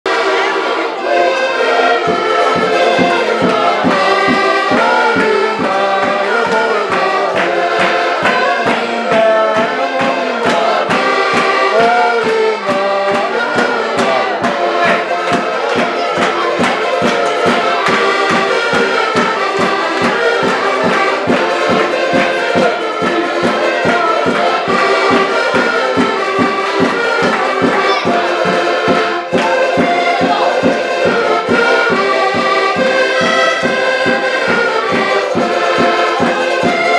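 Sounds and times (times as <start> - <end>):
accordion ensemble playing a tune: 0.0 - 36.9.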